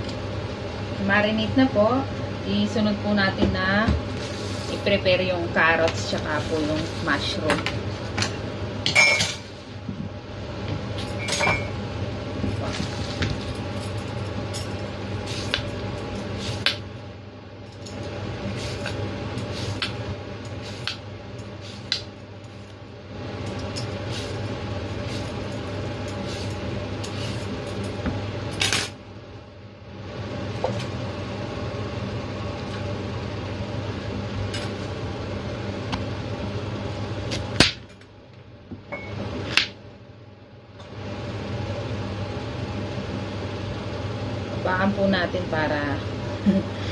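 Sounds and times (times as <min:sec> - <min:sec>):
low background hum: 0:00.0 - 0:46.9.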